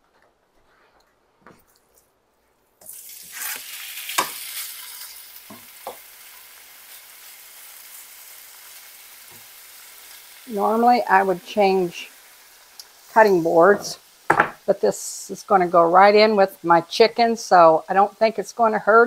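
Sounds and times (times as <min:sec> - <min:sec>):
chicken sizzling in oil: 0:02.8 - 0:19.0.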